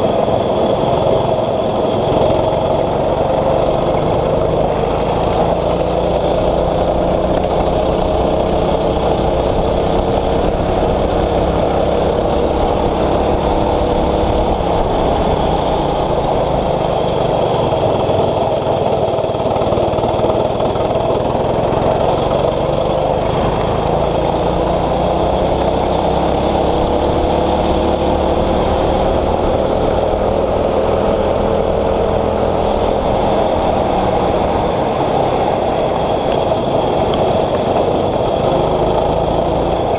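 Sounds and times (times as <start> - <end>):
kart engine under load: 0.0 - 39.9.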